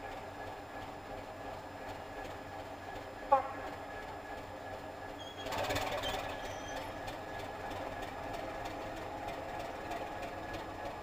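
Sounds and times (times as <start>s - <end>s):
locomotive diesel engine running: 0.0s - 11.0s.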